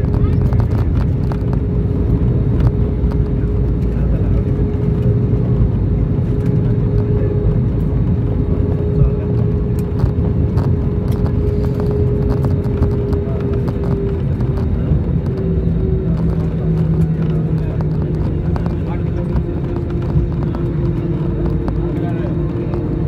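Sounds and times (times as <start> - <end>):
jet engine rumble in cabin: 0.0 - 23.0.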